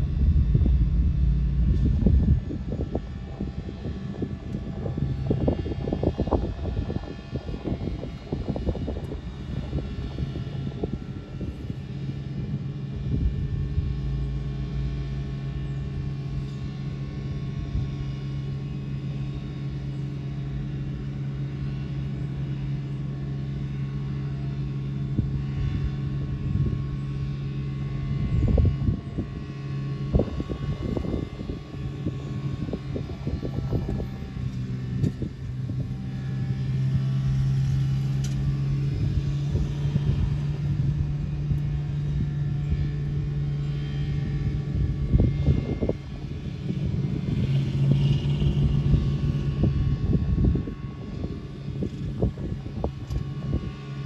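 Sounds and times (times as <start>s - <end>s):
train engine drone: 0.0s - 54.0s.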